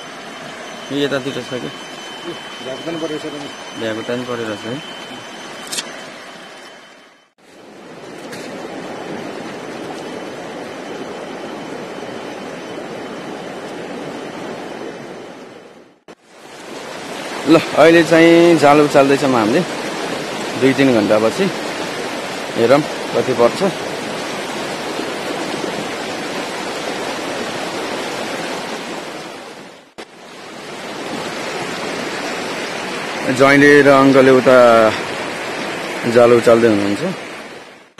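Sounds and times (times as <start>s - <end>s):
flowing river water: 0.0s - 37.9s.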